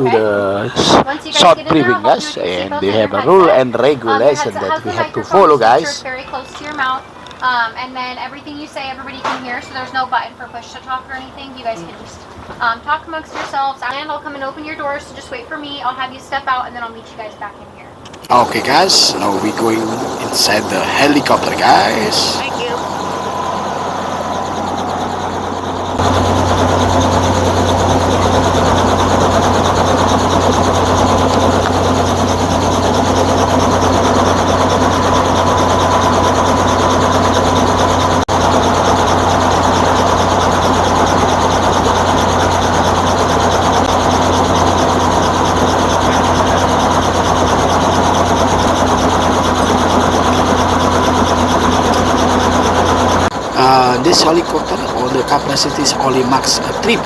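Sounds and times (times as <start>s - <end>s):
helicopter engine drone: 0.0s - 12.0s, 18.1s - 57.0s.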